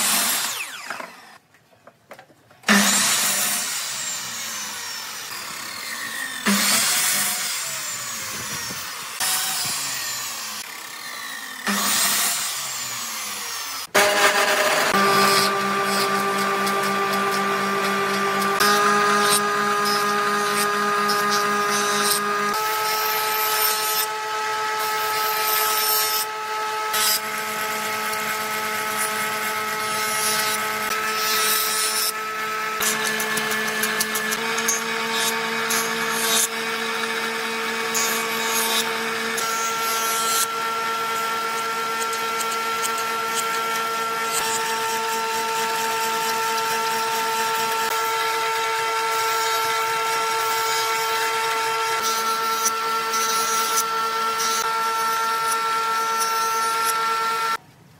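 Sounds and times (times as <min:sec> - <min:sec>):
jointer motor whine: 0:00.0 - 0:01.4, 0:02.7 - 0:57.6
wood rasping cutting noise: 0:00.0 - 0:01.4, 0:02.6 - 0:57.6.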